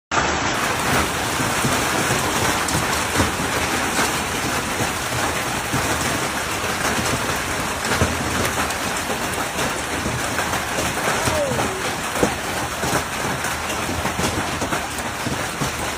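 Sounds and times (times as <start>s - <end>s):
heavy rain downpour: 0.1s - 15.9s
rain impact knocks: 0.2s - 15.9s.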